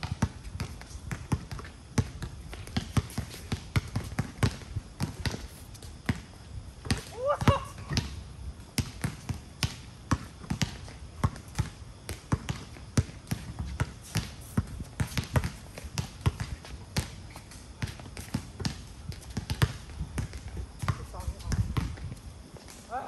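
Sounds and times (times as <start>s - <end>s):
basketball bouncing on hard court: 0.0s - 5.4s, 6.1s - 17.2s, 17.8s - 22.1s.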